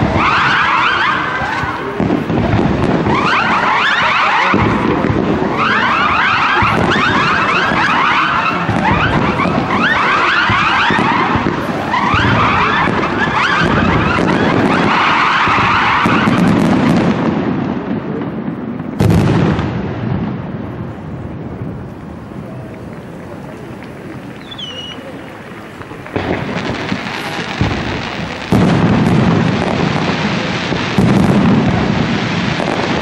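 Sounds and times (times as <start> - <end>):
loud firework shell burst: 0.0 - 18.0, 23.1 - 33.0
rumble of firework launches: 0.0 - 33.0
whistling fireworks: 0.0 - 33.0.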